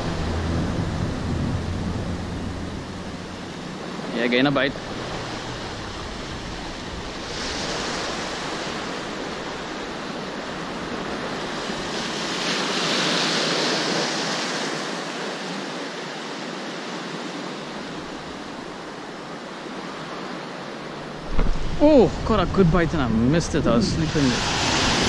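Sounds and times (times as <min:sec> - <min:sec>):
sea surf washing in: 0:00.0 - 0:25.0.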